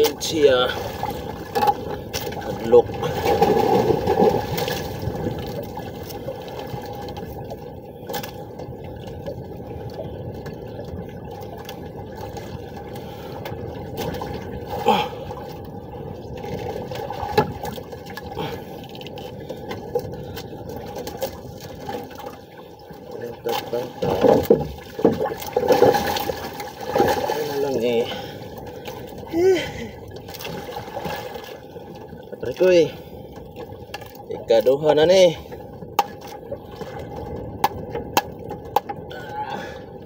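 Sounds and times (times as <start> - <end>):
sea water splashing against boat hull: 0.0 - 29.2, 30.2 - 39.4.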